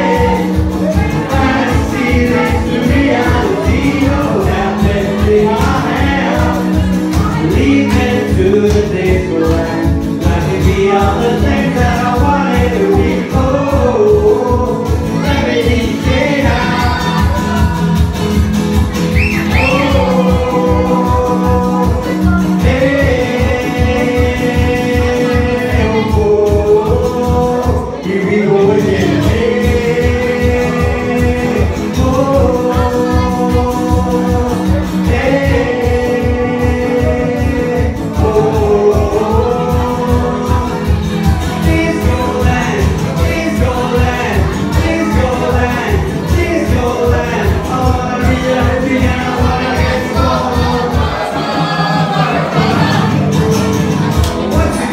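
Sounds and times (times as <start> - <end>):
acoustic guitar strumming: 0.0 - 54.9
man singing: 0.0 - 54.9.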